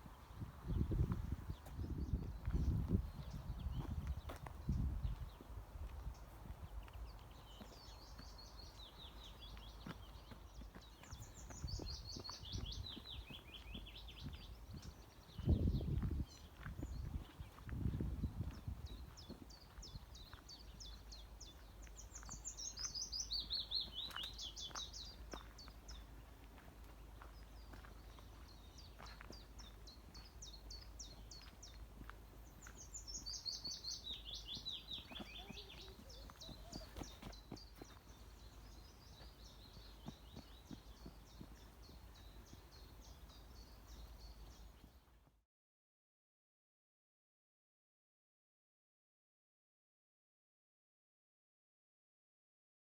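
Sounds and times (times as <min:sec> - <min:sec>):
small songbirds chirping: 0:00.0 - 0:45.3.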